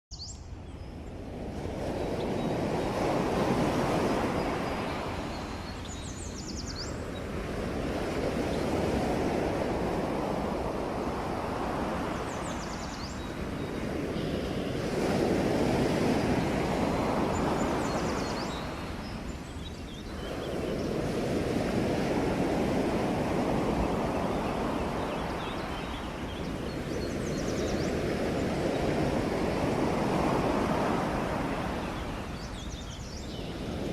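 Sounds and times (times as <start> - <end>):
ocean waves breaking: 1.0 - 33.9.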